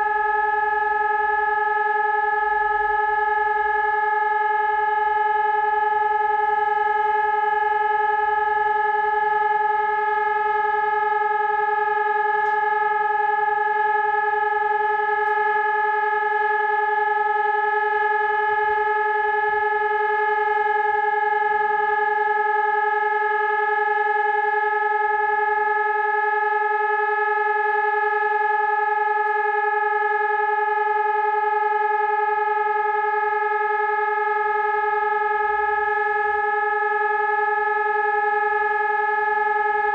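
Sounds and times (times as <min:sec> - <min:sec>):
electronic siren steady tone: 0:00.0 - 0:39.9.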